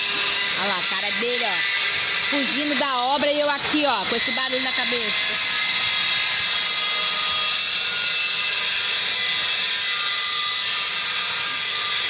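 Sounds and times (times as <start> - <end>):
circular saw cutting: 0.0 - 12.0.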